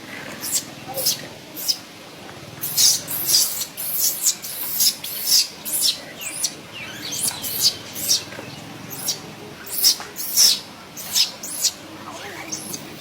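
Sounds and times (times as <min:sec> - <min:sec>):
baby monkey squealing: 0:00.4 - 0:01.8, 0:02.6 - 0:08.3, 0:08.9 - 0:13.0.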